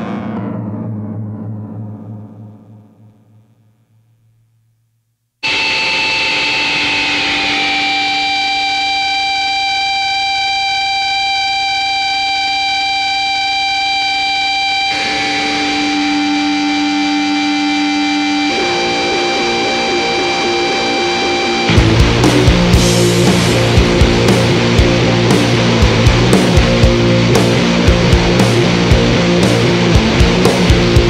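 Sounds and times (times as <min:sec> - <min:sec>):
distorted black metal music: 0:00.0 - 0:03.8, 0:05.4 - 0:31.0.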